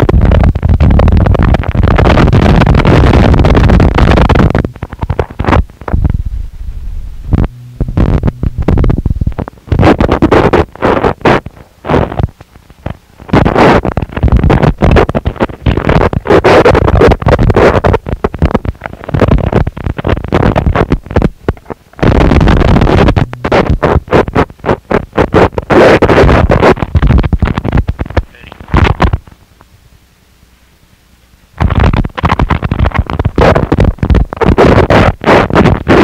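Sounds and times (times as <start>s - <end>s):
harsh distorted noise music: 0.0s - 29.3s, 31.6s - 36.0s.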